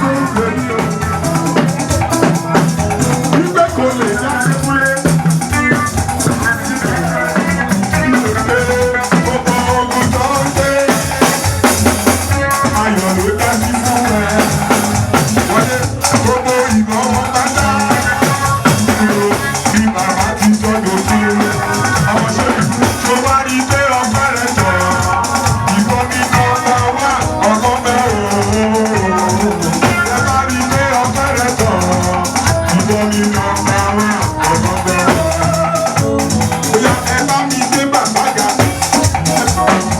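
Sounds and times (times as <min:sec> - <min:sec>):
music with percussive beat: 0:00.0 - 0:39.9.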